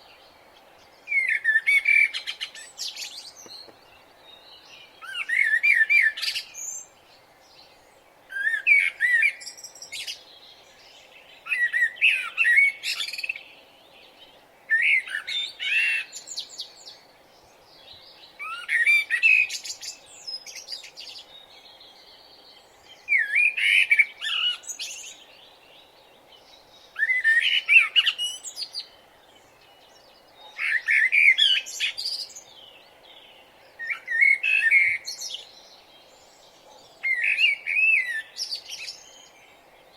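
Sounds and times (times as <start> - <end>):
faint background hiss: 0.0 - 39.9
songbird chirping: 0.0 - 39.9.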